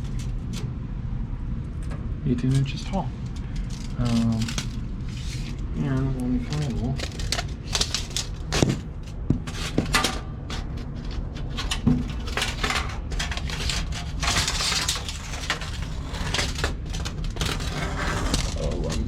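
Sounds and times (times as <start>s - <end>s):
steady low hum: 0.0s - 19.0s
scraping or rustling: 3.1s - 19.0s
objects being handled clattering: 3.2s - 19.0s.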